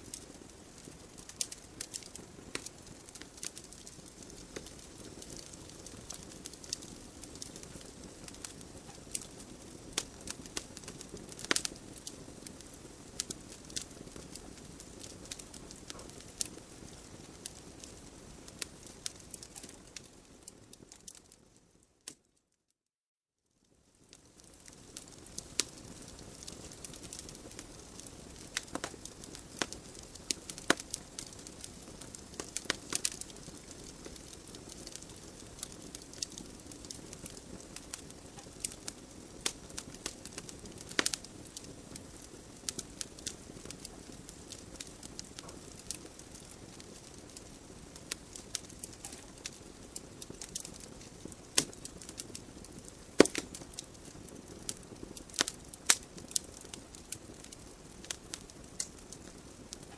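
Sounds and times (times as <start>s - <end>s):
fire flames hissing: 0.0s - 19.7s, 24.3s - 59.8s
logs crackling and popping: 0.0s - 22.3s, 23.9s - 59.9s.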